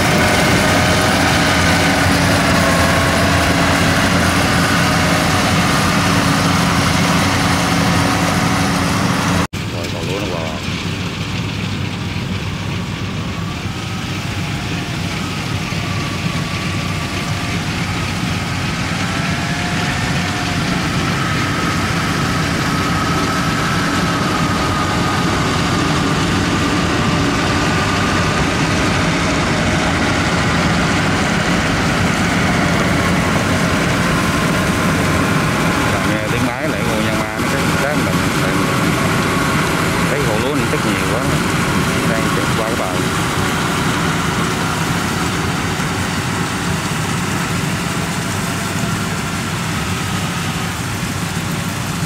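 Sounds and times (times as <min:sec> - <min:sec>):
combine harvester running: 0:00.0 - 0:52.0.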